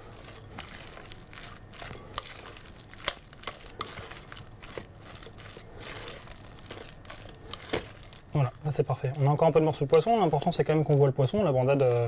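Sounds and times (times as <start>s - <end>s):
spoon mixing thick mash: 0.0s - 12.0s.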